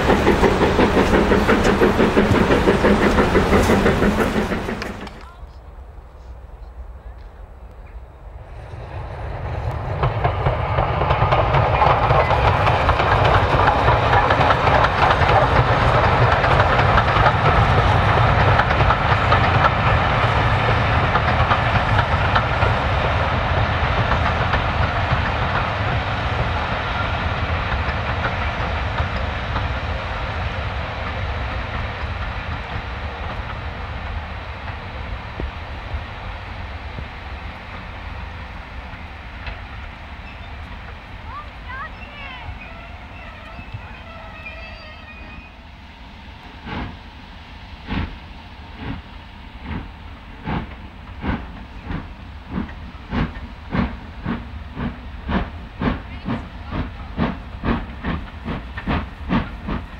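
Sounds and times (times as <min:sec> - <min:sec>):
steam locomotive passing: 0:00.0 - 0:59.9.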